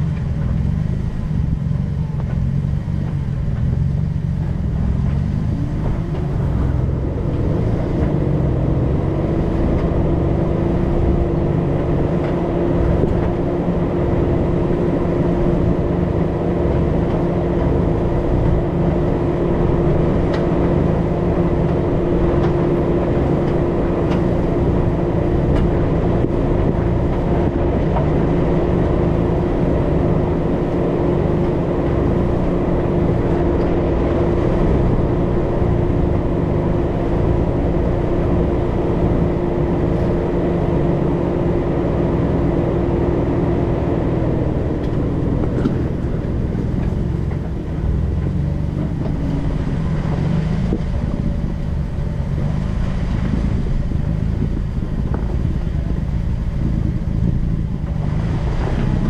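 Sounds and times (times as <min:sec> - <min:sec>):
motor vehicle driving: 0:00.0 - 0:59.0
steady tone: 0:01.0 - 0:59.0.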